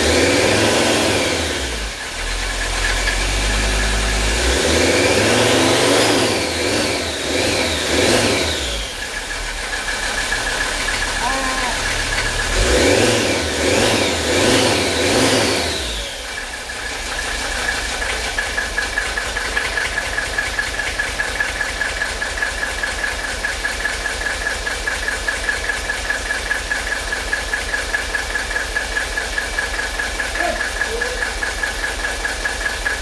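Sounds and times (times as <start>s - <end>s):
diesel engine revving and idling: 0.0s - 33.0s.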